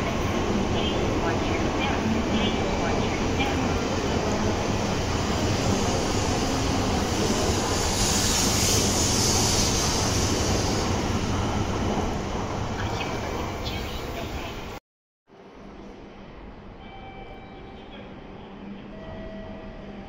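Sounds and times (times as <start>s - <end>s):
train passing: 0.0s - 20.0s.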